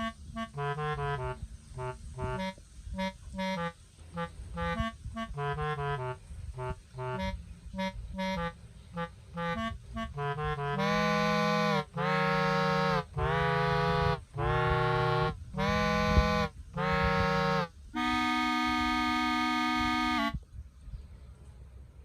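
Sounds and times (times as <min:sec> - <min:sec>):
long held chords: 0:00.0 - 0:20.4.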